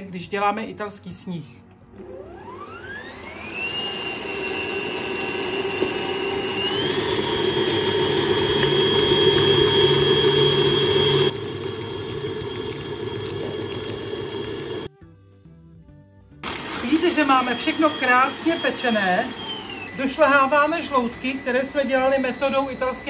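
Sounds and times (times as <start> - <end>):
stand mixer motor whine: 1.9 - 14.9, 16.4 - 23.0.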